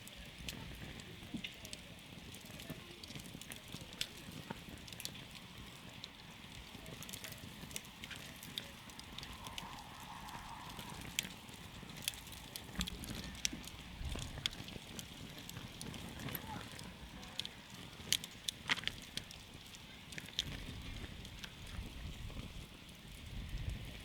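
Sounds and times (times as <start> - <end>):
campfire crackling: 0.0 - 24.0
sharp pops and snaps: 0.4 - 22.6.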